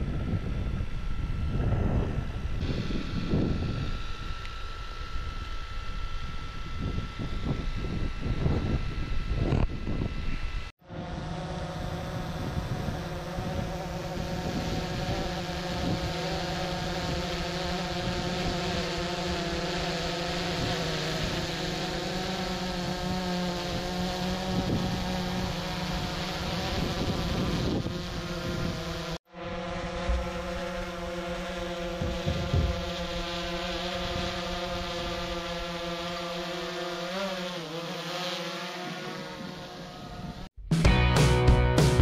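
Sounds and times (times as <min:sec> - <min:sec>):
drone propellers buzzing: 0:00.0 - 0:40.6.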